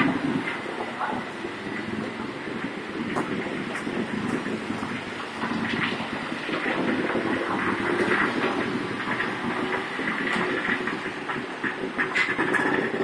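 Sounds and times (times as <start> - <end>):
cars and motorbikes passing: 0.0 - 13.0
tyres on wet road: 0.0 - 13.0.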